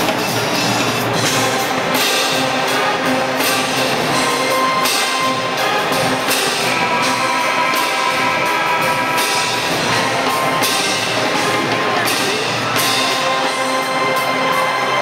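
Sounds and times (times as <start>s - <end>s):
brass band playing: 0.0s - 15.0s
drums: 0.0s - 15.0s.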